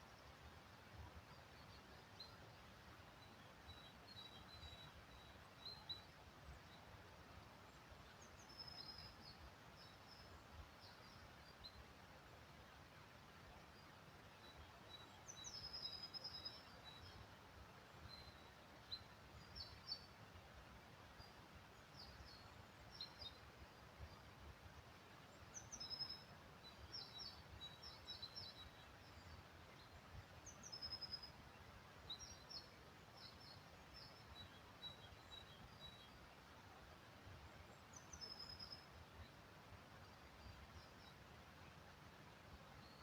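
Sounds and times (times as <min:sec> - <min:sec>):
quiet woodland hiss: 0:00.0 - 0:43.0
small songbirds singing: 0:00.0 - 0:43.0.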